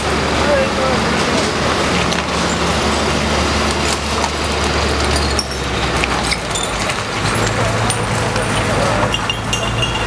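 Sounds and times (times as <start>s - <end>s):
diesel truck engine passing: 0.0s - 10.0s.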